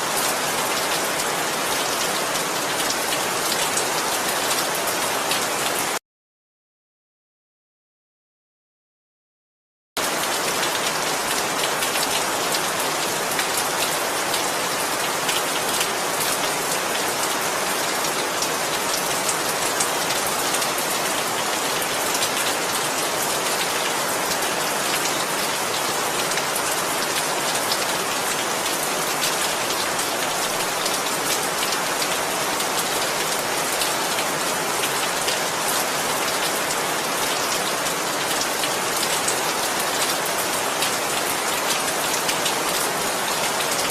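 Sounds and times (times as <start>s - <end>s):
steady rain falling: 0.0s - 6.0s, 10.0s - 43.9s.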